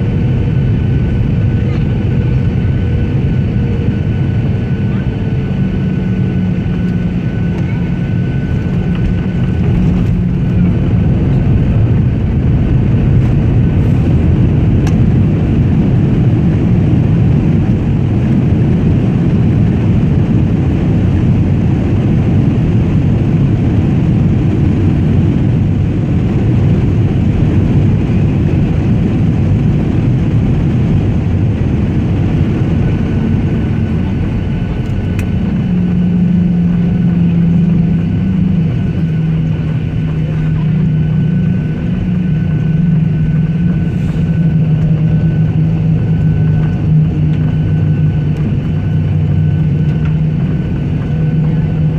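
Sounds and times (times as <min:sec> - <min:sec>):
airliner engines rumbling: 0:00.0 - 0:51.9
steady low hum: 0:00.0 - 0:51.9.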